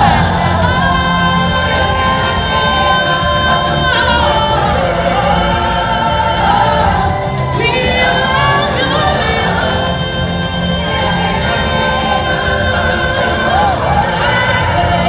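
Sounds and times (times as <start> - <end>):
choir singing show music: 0.0 - 15.0.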